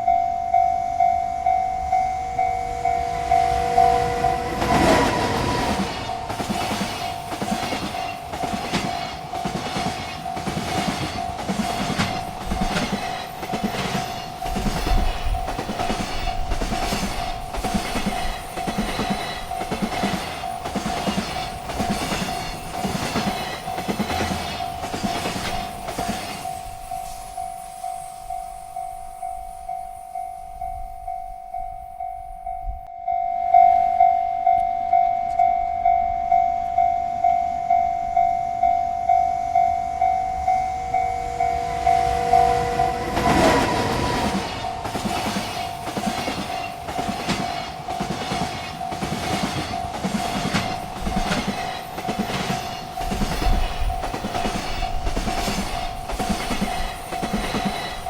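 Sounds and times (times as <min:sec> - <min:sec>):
freight train rumbling and clacking: 0:00.0 - 0:32.9, 0:34.6 - 0:58.0
railroad crossing bell ringing: 0:00.0 - 0:58.0.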